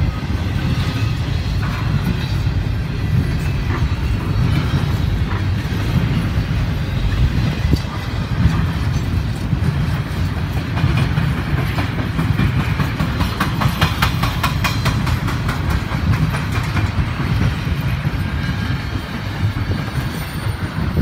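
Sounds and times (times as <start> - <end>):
freight train rumbling: 0.0 - 21.0
wheels clacking over rail joints: 0.0 - 21.0.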